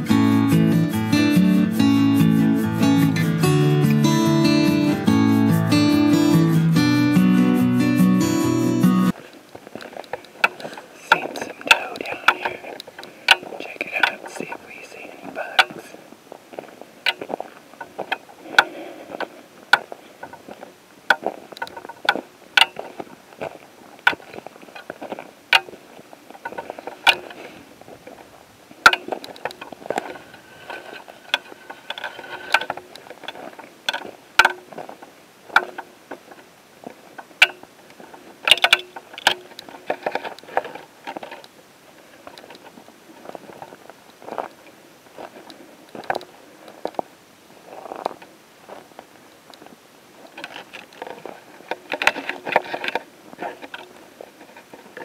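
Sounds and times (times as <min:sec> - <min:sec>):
brush and clothing rustling: 0:09.1 - 0:55.0
footsteps on dry grass and rocks: 0:09.1 - 0:55.0.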